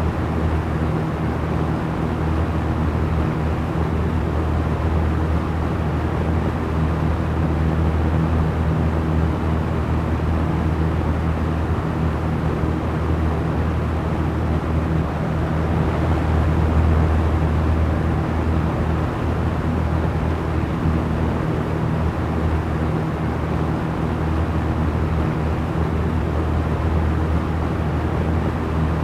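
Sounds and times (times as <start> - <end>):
electric fan motor hum: 0.0 - 29.0
rush of air from fan: 0.0 - 29.0.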